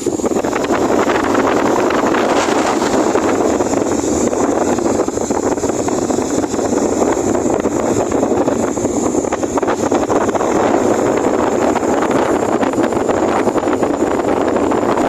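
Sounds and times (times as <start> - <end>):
fan airflow buffeting microphone: 0.0 - 15.0.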